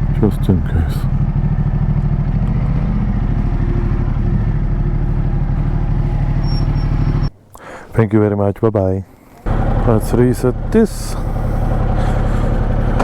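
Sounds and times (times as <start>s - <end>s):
motorcycle engine idling: 0.0s - 7.3s, 9.4s - 13.0s.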